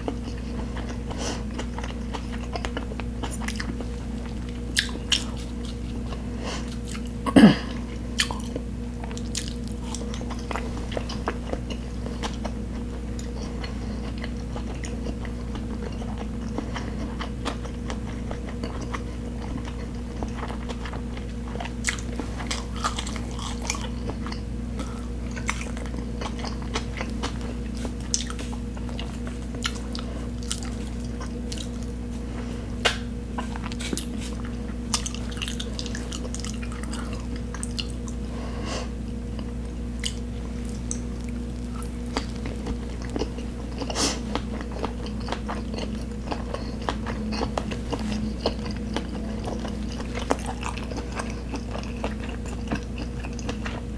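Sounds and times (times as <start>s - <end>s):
close chewing and crunching: 0.0s - 53.9s
steady low hum: 0.0s - 53.9s.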